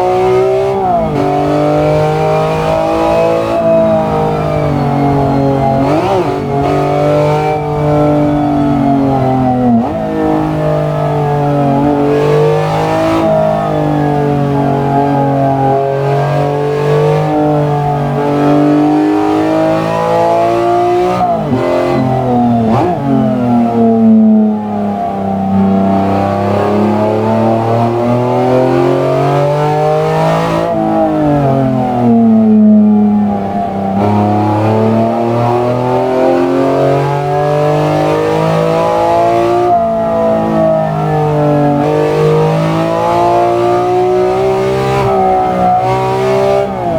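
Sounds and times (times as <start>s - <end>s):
car engine changing speed: 0.0s - 46.9s.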